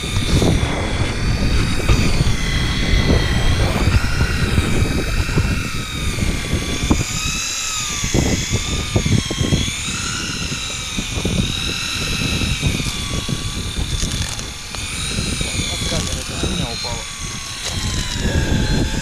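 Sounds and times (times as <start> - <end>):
electric fishing reel whining: 0.0 - 19.0
wind buffeting microphone: 0.0 - 19.0.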